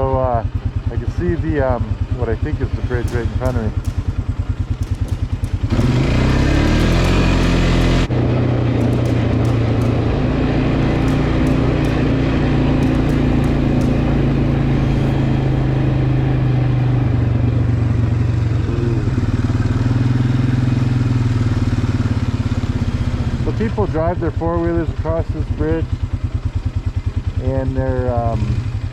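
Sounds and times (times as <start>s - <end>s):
off-road vehicle engine: 0.0s - 28.9s.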